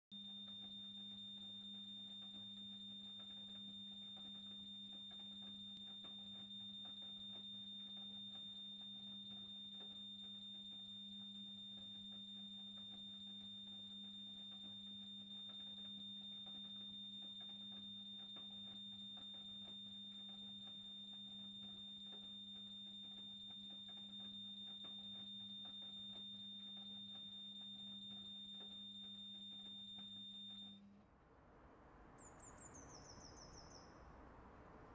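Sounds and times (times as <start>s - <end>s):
low steady hum: 0.1s - 34.9s.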